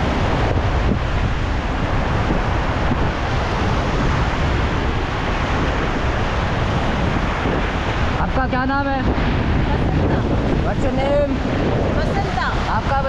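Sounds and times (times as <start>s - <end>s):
river rapids rushing: 0.0s - 13.0s
wind buffeting microphone: 0.0s - 13.0s.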